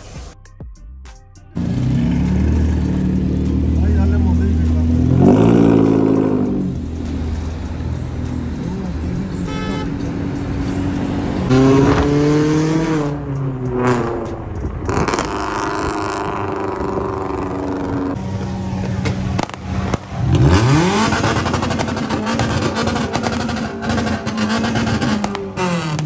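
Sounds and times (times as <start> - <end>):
car engines revving: 1.6 - 26.0.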